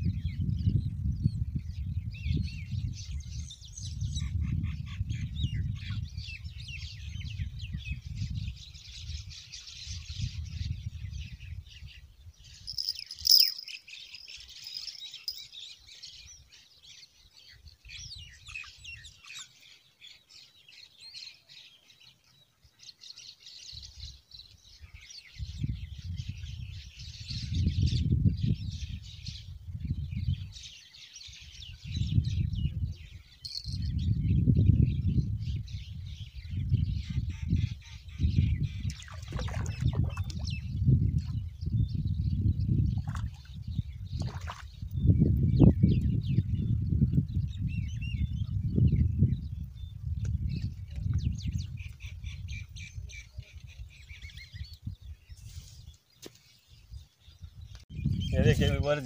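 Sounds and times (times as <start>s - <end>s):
small birds chirping: 0.4s - 59.0s.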